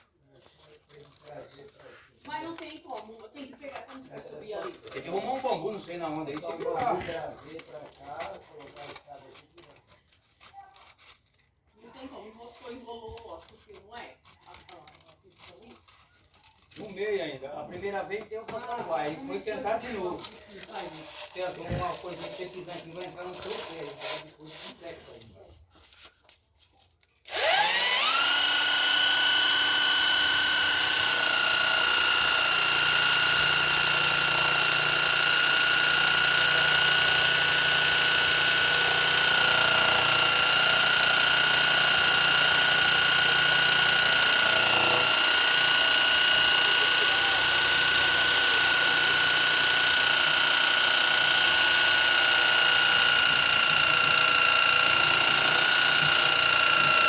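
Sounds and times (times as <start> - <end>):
electric drill motor whining: 2.4 - 9.0, 12.1 - 24.8, 27.2 - 57.0.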